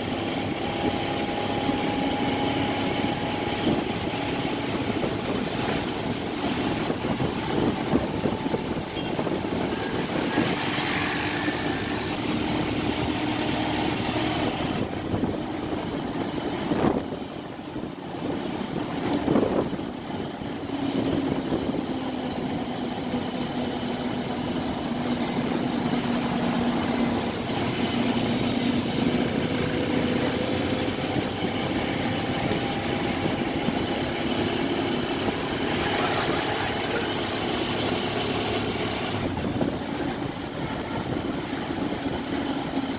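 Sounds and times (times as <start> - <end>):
city traffic drone: 0.0 - 42.9
vehicles passing close: 0.0 - 42.9.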